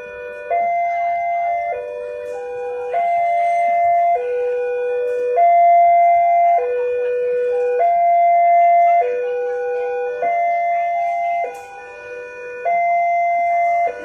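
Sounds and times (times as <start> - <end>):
two-tone level crossing alarm: 0.0 - 14.0.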